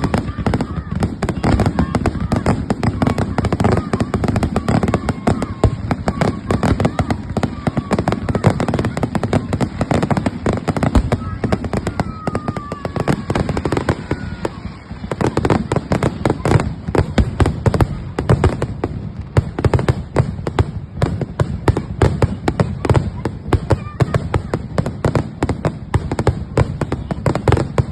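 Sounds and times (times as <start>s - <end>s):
fireworks crackling and banging: 0.0s - 27.9s.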